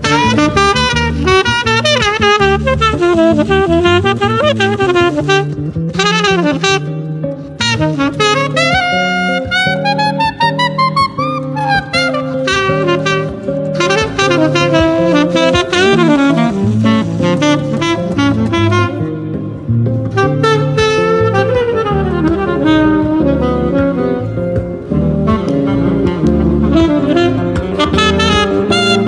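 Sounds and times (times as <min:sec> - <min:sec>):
saxophone jazz solo: 0:00.0 - 0:29.0.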